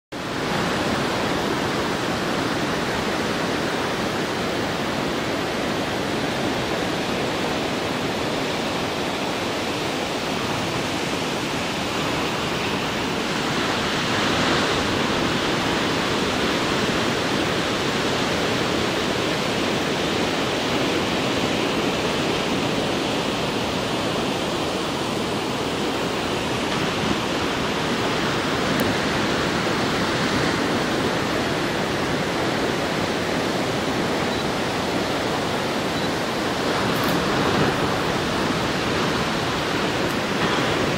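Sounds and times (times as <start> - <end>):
ocean surf breaking: 0.1 - 40.9.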